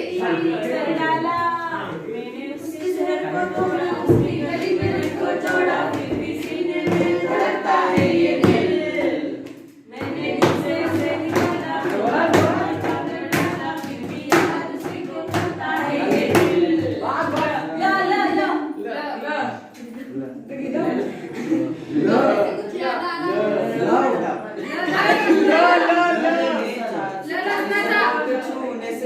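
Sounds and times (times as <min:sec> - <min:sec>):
group of voices singing: 0:00.0 - 0:19.9, 0:20.6 - 0:29.0.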